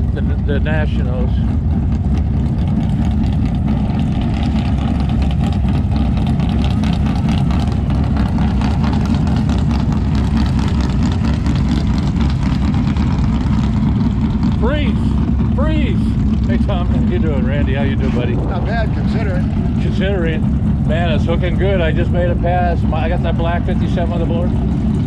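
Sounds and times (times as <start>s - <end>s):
race car engine idling: 0.0s - 25.0s.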